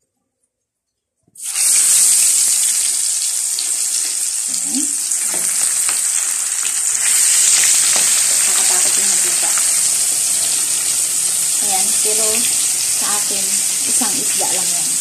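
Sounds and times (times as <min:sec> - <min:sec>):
fish frying in hot oil: 0:01.4 - 0:15.0.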